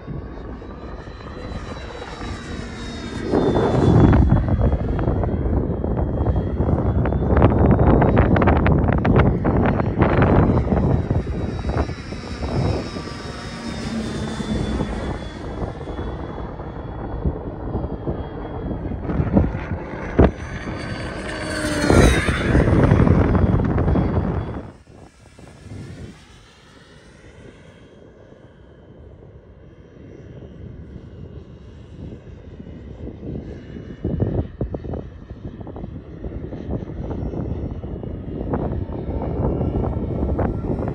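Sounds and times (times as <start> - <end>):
model plane engine whine: 0.0 - 40.9.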